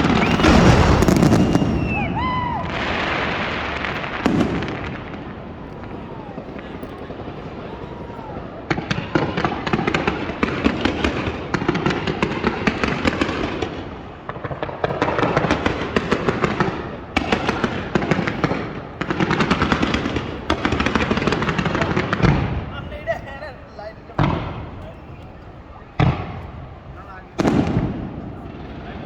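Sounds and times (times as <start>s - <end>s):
fireworks barrage: 0.0s - 29.0s.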